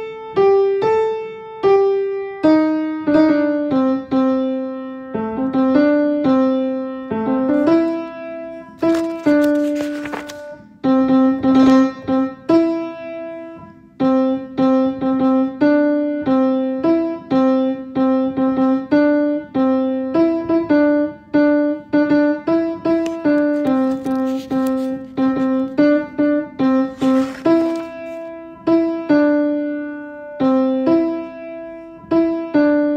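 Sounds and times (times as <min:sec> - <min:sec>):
slow piano notes: 0:00.0 - 0:32.9.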